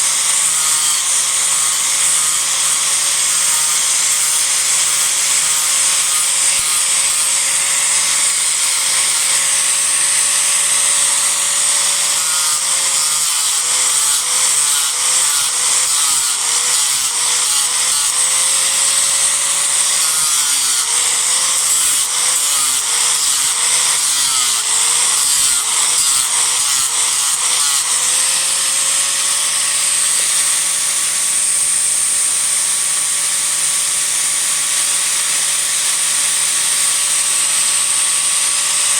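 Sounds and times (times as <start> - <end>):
disc grinder cutting wood: 0.0 - 38.9.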